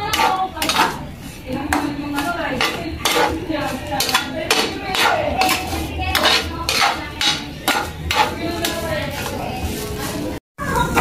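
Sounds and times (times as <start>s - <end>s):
spatula scraping frying pan: 0.0s - 10.4s.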